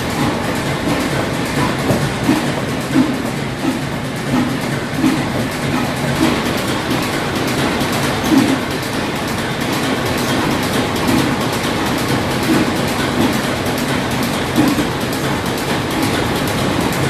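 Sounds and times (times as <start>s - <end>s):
stationary engines clattering: 0.0s - 17.0s.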